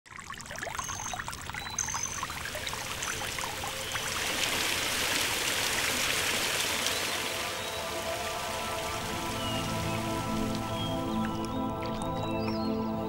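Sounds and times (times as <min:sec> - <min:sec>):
fountain water trickling and splashing: 0:00.1 - 0:12.8.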